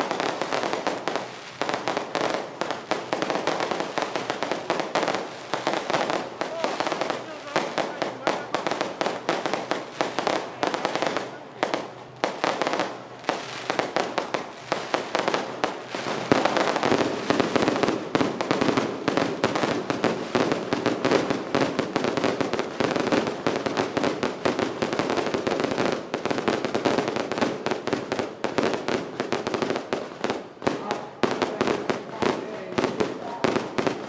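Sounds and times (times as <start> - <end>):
firecrackers crackling: 0.0 - 34.0.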